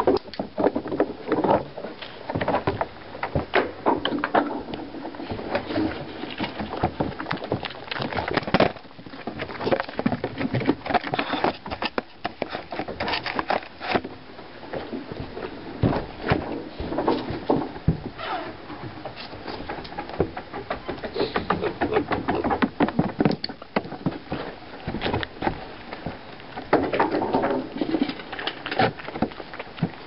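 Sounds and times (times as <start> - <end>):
pig rooting and chewing food: 0.0 - 30.0.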